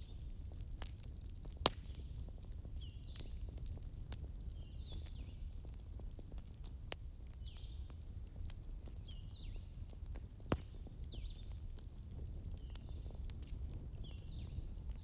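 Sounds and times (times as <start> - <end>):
bonfire crackling and popping: 0.0 - 15.0
low rumble of flames: 0.0 - 15.0.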